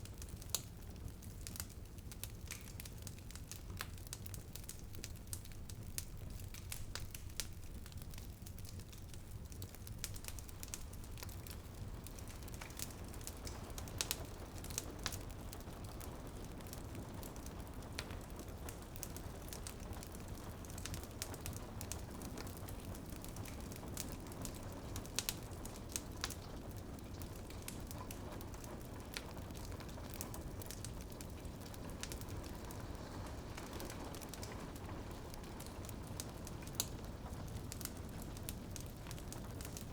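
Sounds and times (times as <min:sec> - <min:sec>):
rain pattering on window: 0:00.0 - 0:39.9
wood fire crackling and popping: 0:00.0 - 0:39.9.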